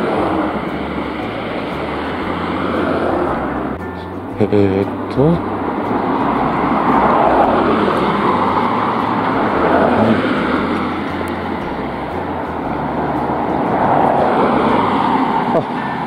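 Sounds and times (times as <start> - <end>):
cars passing close by: 0.0 - 16.0.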